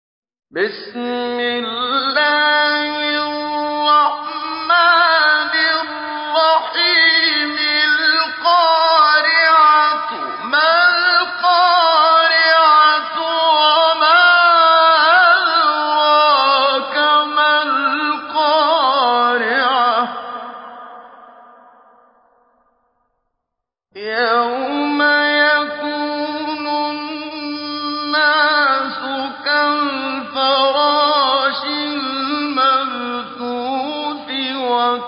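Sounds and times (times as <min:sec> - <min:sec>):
man chanting melodically: 0:00.5 - 0:21.2, 0:24.0 - 0:35.0.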